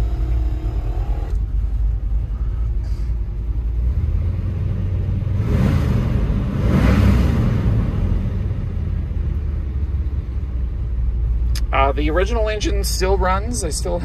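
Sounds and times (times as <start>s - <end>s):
engine exhaust and road rumble: 0.0s - 14.0s.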